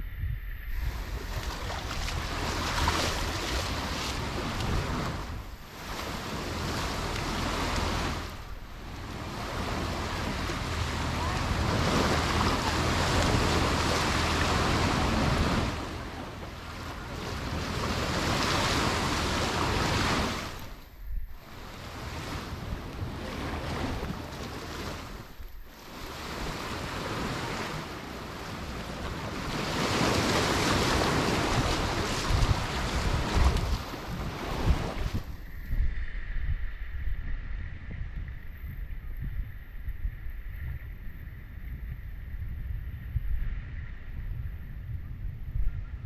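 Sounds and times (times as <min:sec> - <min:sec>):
wind buffeting microphone: 0:00.0 - 0:46.0
waves washing onto shore: 0:00.6 - 0:37.6.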